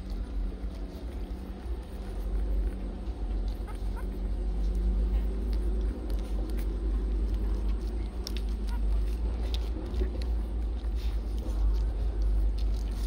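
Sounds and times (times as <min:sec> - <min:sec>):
puppies suckling clicks: 0:00.0 - 0:13.0
steady low rumble: 0:00.0 - 0:13.0.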